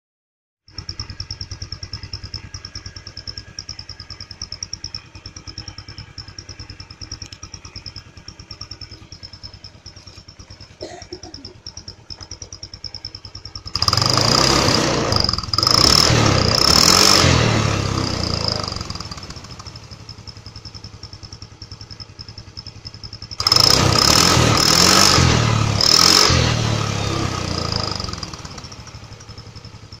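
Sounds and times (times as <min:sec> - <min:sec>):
scooter engine idling: 0:00.7 - 0:30.0.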